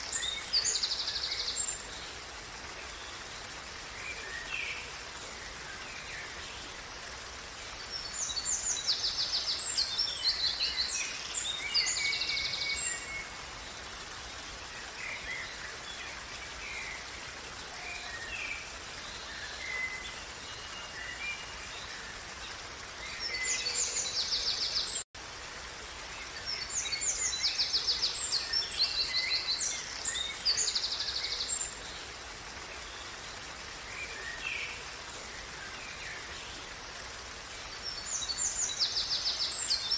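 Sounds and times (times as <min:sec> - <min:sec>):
songbird singing: 0:00.0 - 0:25.1, 0:26.2 - 0:36.7, 0:37.5 - 0:39.9
stream water rushing: 0:00.0 - 0:39.9.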